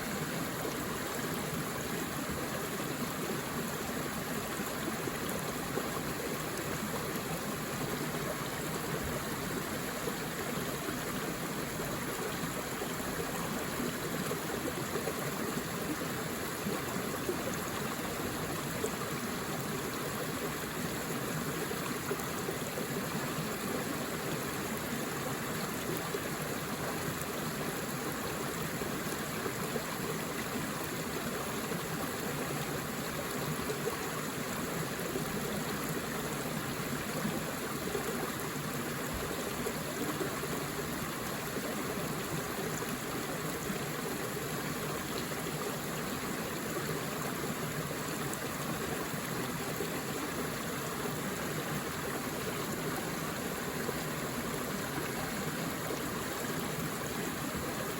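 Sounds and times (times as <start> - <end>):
stream flowing over rocks: 0.0 - 57.9.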